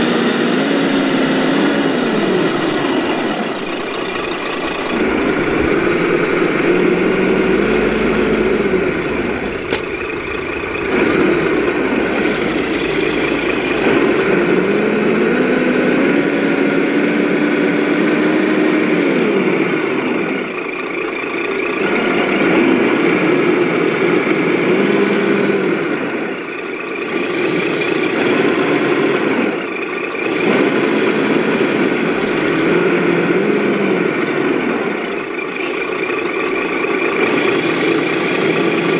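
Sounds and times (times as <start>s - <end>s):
electric drive and gears whine: 0.0s - 38.9s
simulated diesel truck engine: 0.0s - 38.9s.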